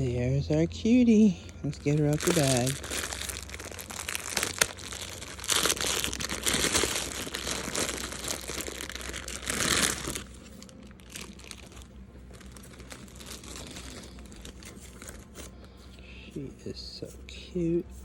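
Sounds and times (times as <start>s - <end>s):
plastic bag crinkling: 1.4s - 15.9s.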